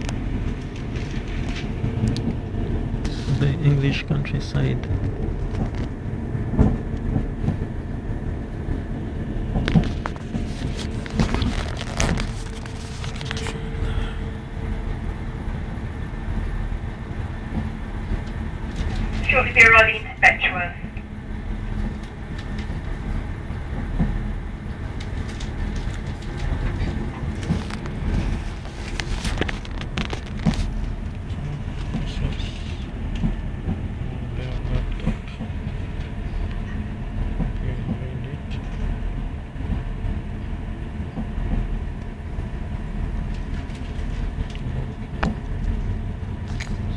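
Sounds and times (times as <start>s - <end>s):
train low rumble: 0.0s - 46.9s.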